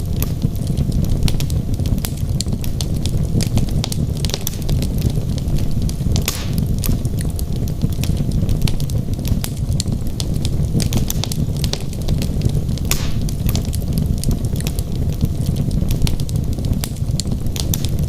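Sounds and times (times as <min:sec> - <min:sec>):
fire crackles and pops: 0:00.0 - 0:18.0
hissing fire flare-ups: 0:00.0 - 0:18.0
wood logs burning: 0:00.0 - 0:18.0.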